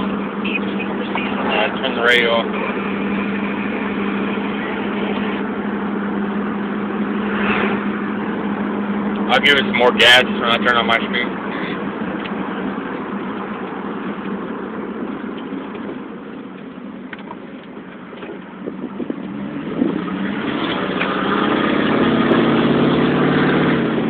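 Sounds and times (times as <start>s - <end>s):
loud engine revving: 0.0s - 14.0s, 18.7s - 24.0s.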